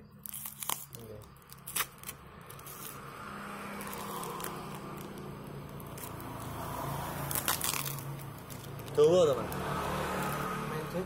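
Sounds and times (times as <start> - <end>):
packaging tape crinkling and tearing: 0.1 - 3.0, 3.7 - 6.6, 7.2 - 10.5.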